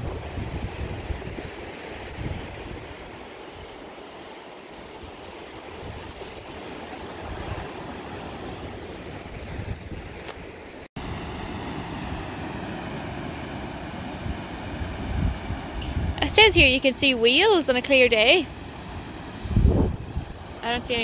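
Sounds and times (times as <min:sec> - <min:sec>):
surf on beach: 0:00.0 - 0:21.0
wind gusting across microphone: 0:00.0 - 0:21.0.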